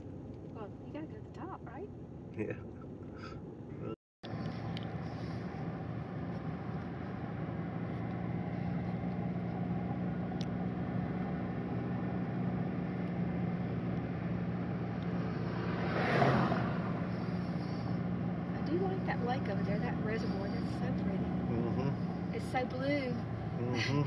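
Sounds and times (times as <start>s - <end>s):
car engine and tyres droning: 0.0s - 24.0s
passing vehicle whoosh: 4.3s - 23.8s.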